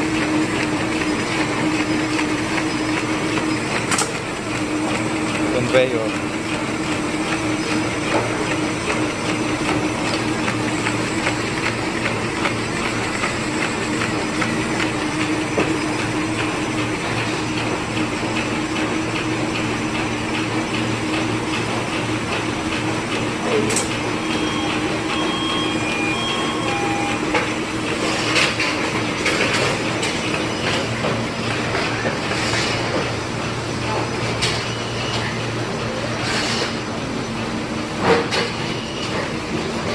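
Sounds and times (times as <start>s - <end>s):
machine humming and clattering: 0.0s - 39.9s.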